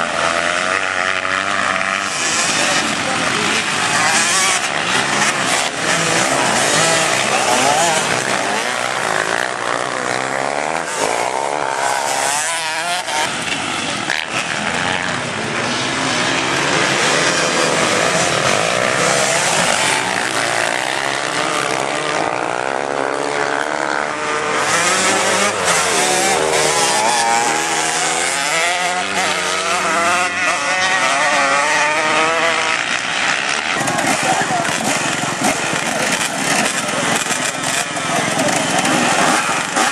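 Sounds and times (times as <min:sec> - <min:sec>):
racing motorcycles revving: 0:00.0 - 0:39.9.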